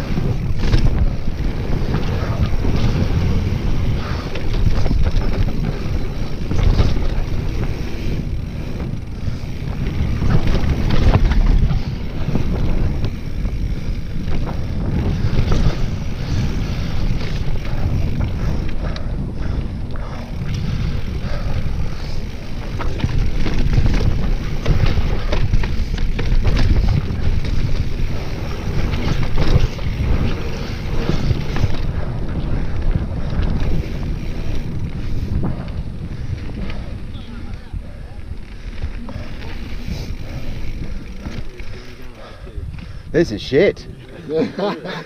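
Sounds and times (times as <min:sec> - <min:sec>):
bike clicks and knocks: 0:00.0 - 0:43.0
wind rushing over microphone: 0:00.0 - 0:44.1
tyres rumbling on dirt: 0:00.0 - 0:45.0.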